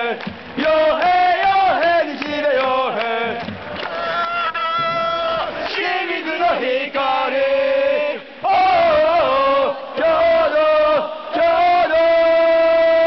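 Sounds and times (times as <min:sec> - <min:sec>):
crowd singing a chant: 0:00.0 - 0:04.0, 0:04.9 - 0:13.0.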